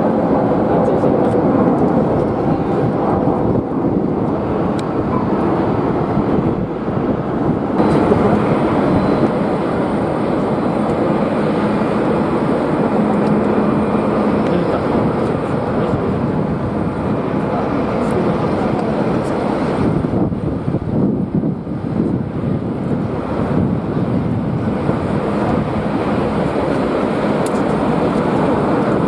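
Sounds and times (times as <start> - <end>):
faint engine whine: 0.0 - 29.0
jet engine rumble: 0.0 - 29.0
wind buffeting microphone: 0.0 - 29.0.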